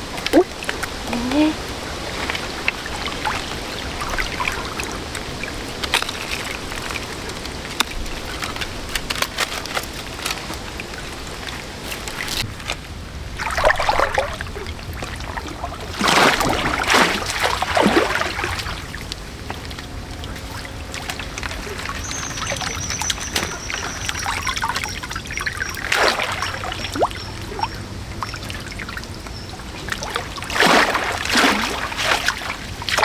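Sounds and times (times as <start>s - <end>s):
water sloshing and splashing: 0.0s - 33.0s.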